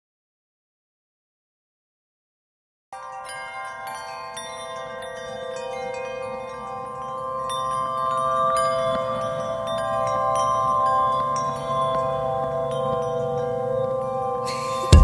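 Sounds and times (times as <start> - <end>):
ambient music held tones: 3.0 - 15.0
high ringing chime strikes: 3.0 - 15.0.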